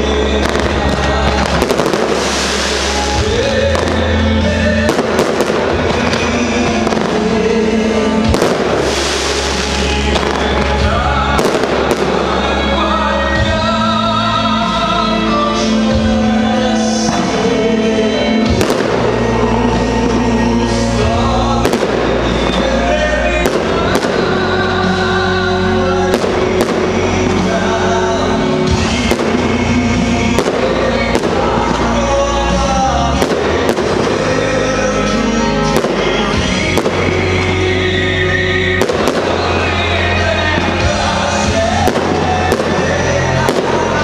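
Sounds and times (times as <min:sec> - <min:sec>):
fireworks bursting: 0:00.0 - 0:14.0, 0:14.6 - 0:44.0
loud music: 0:00.0 - 0:44.0.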